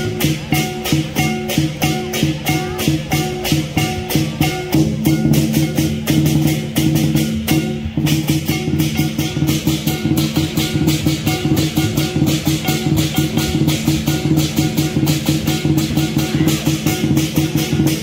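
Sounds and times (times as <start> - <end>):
music with fast beat: 0.0 - 18.0.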